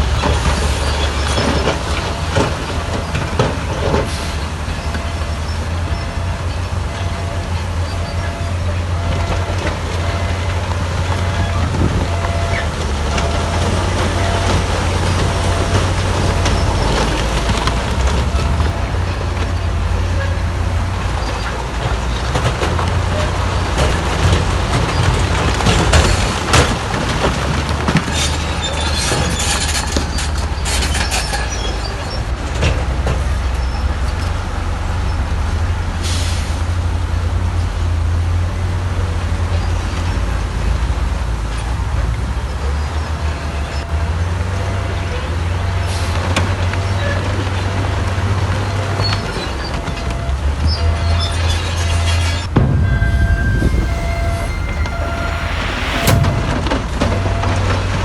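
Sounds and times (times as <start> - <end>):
diesel machinery rumbling: 0.0 - 58.0.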